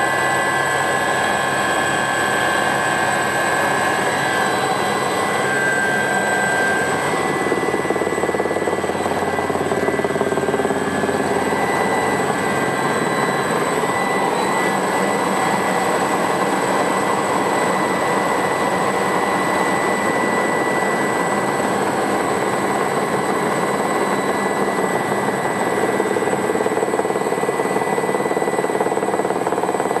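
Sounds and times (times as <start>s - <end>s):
helicopter rotor beating: 0.0s - 30.0s
helicopter turbine whine: 0.0s - 30.0s.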